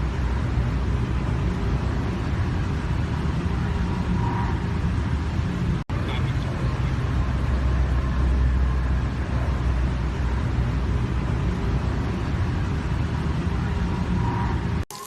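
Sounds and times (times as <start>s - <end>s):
moving vehicle rumble and hiss: 0.0s - 14.8s.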